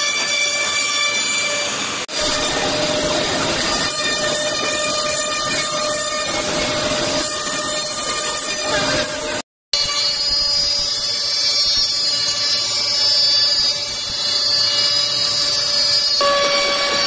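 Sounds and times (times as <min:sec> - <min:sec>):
machine spindles whining: 0:00.0 - 0:17.0.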